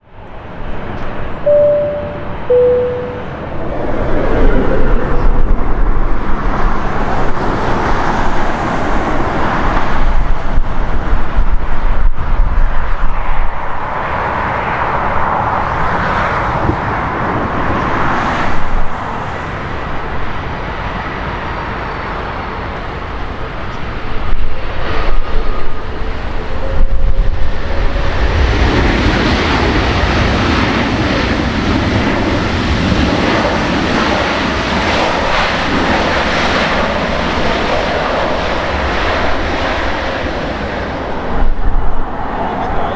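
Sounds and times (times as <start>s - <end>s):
jet engines rumbling: 0.0s - 42.9s.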